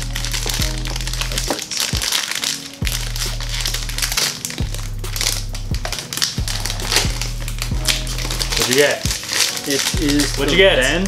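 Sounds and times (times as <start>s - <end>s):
background music with beat and bass: 0.0s - 11.0s
foil bag crinkling: 0.0s - 11.0s.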